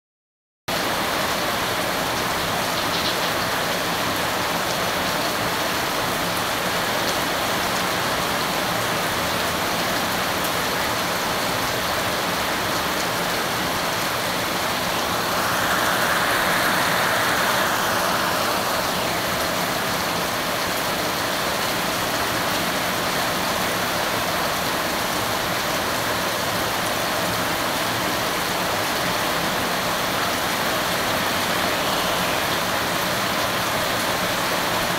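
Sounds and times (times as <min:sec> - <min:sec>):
heavy rain splashing on pavement: 0:00.7 - 0:34.9.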